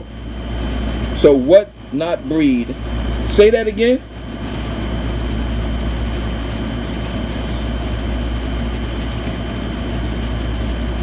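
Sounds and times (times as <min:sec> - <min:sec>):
low machine hum: 0:00.0 - 0:11.0
thin high whine: 0:00.0 - 0:11.0.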